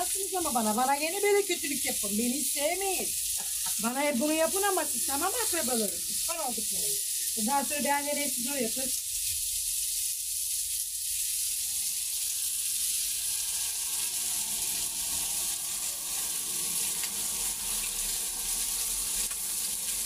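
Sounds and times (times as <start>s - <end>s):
chicken sizzling on griddle: 0.0s - 20.0s.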